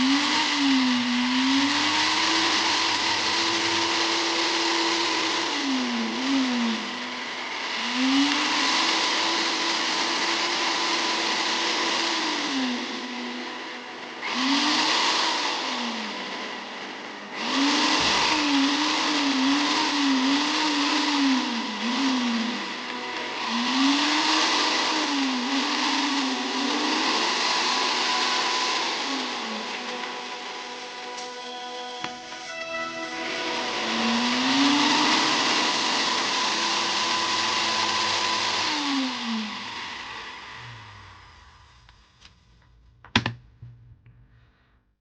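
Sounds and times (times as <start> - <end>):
blender motor pulsing: 0.0 - 42.3.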